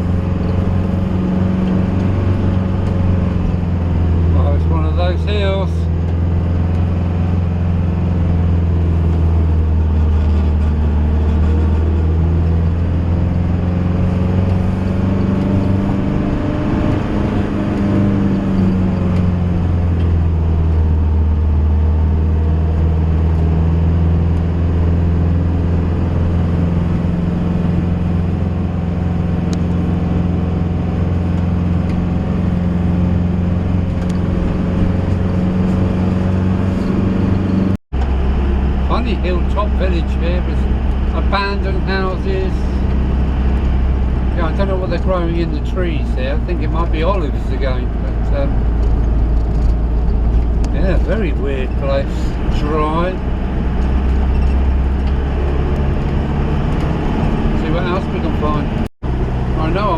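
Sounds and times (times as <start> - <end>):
van engine running under load: 0.0 - 59.9.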